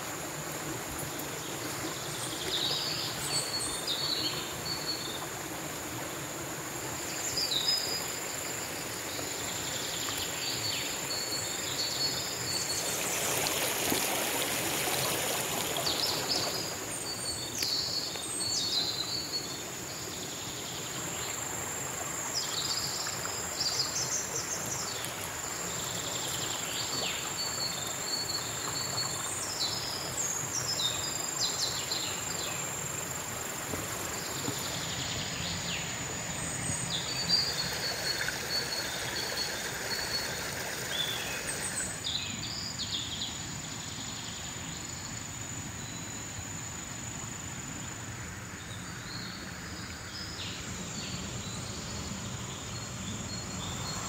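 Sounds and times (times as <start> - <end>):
background hiss: 0.0 - 54.0
insects droning: 0.0 - 54.0.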